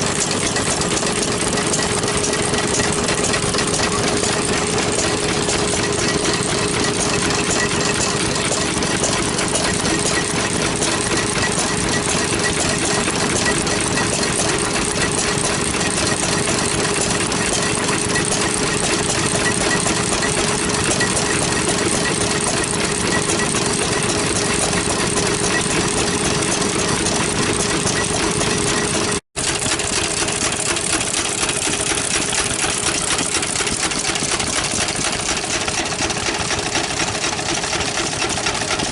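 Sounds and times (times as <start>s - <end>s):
stationary engines running: 0.0s - 38.9s.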